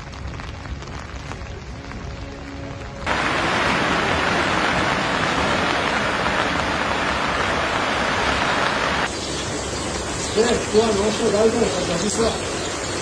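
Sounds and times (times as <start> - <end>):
floodwater rushing: 0.1 - 13.0.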